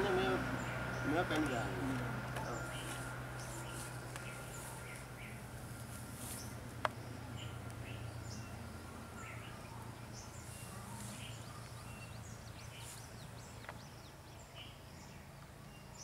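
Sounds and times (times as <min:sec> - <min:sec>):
steady low hum: 0:00.0 - 0:15.9
small birds chirping: 0:00.0 - 0:16.0.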